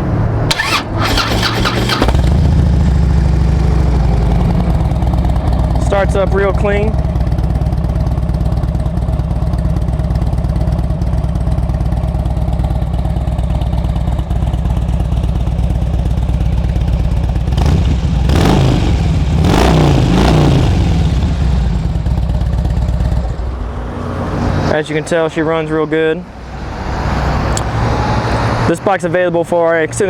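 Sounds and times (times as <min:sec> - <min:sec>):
motorcycle engine idling and revving: 0:00.0 - 0:28.8.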